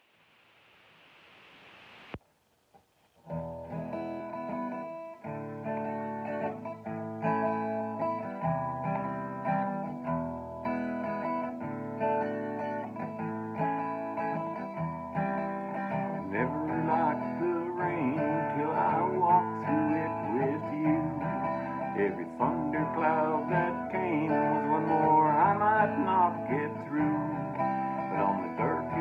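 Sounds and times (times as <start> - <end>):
faint hiss: 0.0 - 29.0
guitar chords: 3.3 - 29.0.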